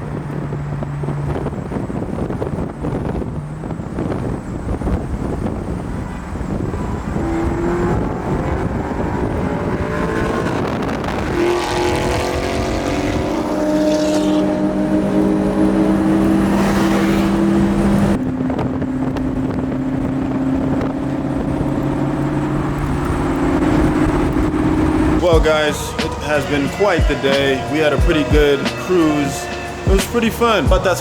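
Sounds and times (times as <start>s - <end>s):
car engine pulling through a gear: 0.0s - 31.0s.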